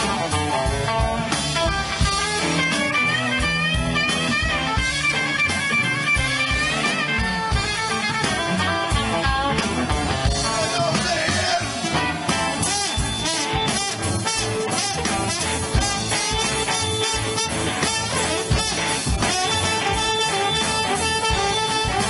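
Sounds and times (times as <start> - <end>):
electric blues band playing: 0.0 - 22.0
electric guitar bending notes: 0.0 - 22.0.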